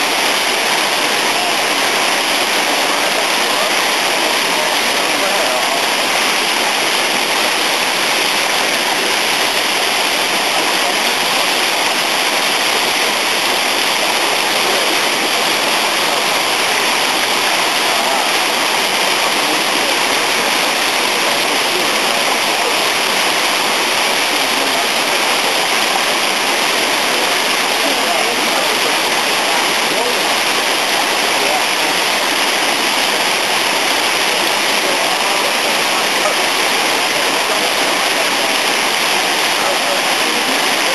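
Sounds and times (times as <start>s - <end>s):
water rushing down a fish ladder: 0.0s - 40.9s.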